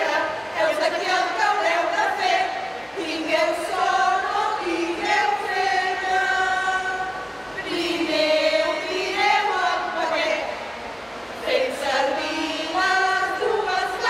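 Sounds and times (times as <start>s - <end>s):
women's choir singing unaccompanied: 0.0s - 14.0s.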